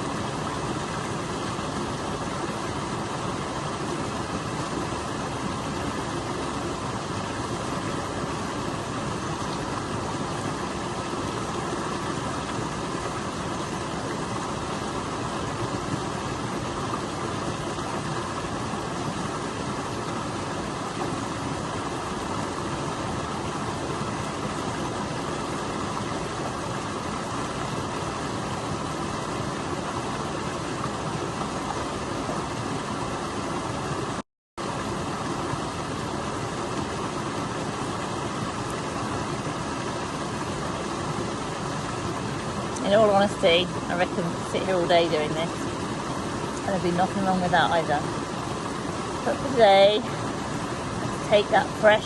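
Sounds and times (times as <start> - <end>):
water rushing over waterfall: 0.0 - 52.0.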